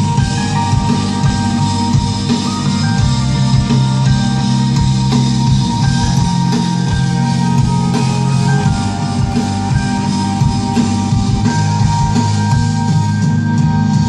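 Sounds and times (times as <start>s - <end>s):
loud band music: 0.0s - 14.0s.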